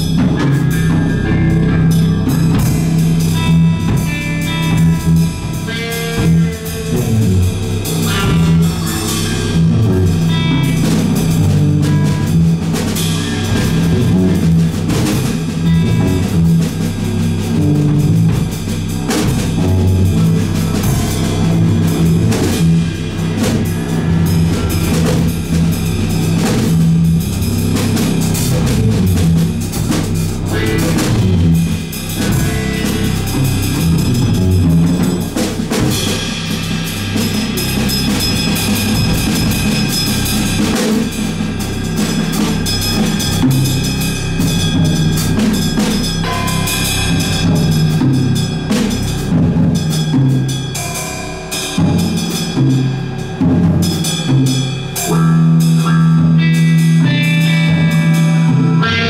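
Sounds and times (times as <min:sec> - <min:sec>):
electric guitar: 0:00.0 - 0:50.9, 0:54.2 - 0:59.0
drum kit: 0:00.0 - 0:59.0
steady low bass line: 0:00.0 - 0:59.0.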